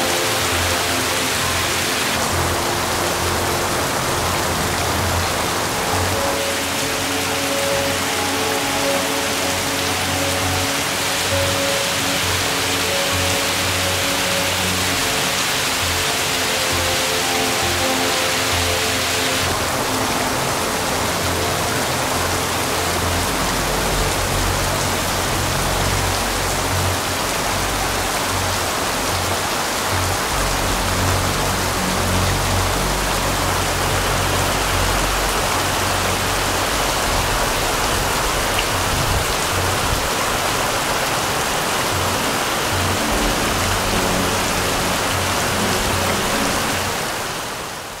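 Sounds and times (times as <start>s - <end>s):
heavy rain on standing water: 0.0s - 48.0s.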